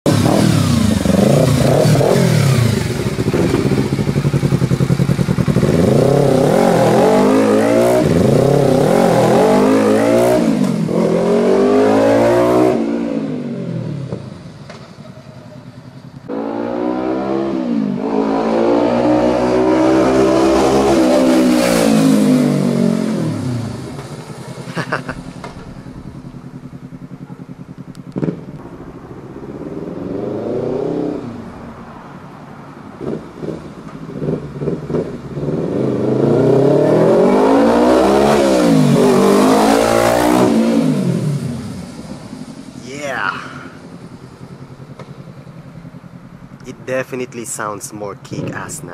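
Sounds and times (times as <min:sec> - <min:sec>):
motorcycle engine revving: 0:00.1 - 0:47.5
motorcycle passing by: 0:00.1 - 0:48.9.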